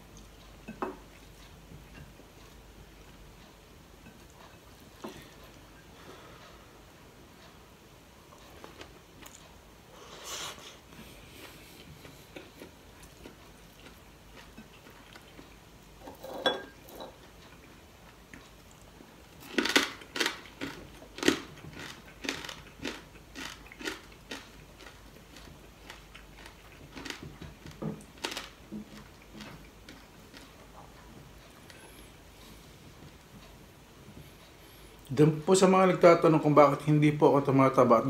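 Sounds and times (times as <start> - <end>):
person chewing food: 0.0 - 7.6, 8.2 - 35.1.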